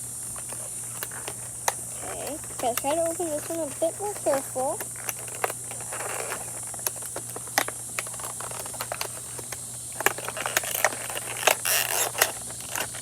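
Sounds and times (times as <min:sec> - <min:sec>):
clicks and crackles of packaging: 0:00.3 - 0:13.0.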